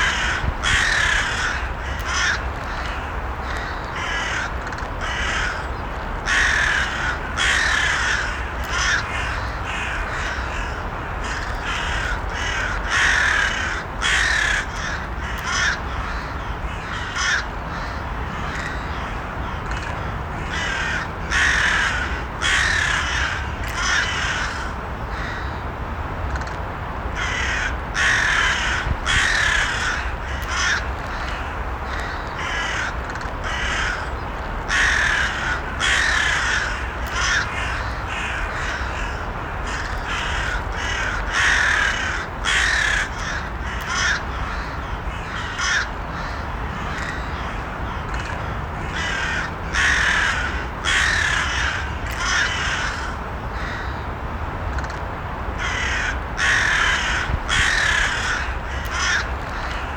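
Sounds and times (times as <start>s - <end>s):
crows cawing: 0.0s - 25.6s, 27.2s - 54.1s, 55.6s - 59.9s.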